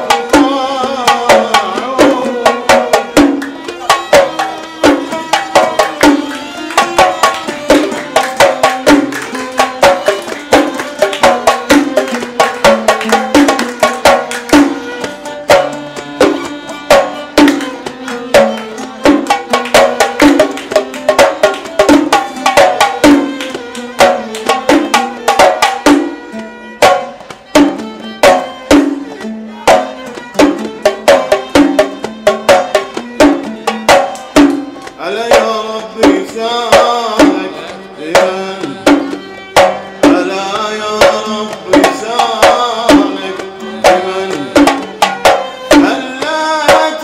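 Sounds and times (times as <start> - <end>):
hand drums: 0.0 - 47.0
oud: 0.0 - 47.0
violin melody: 0.0 - 47.0.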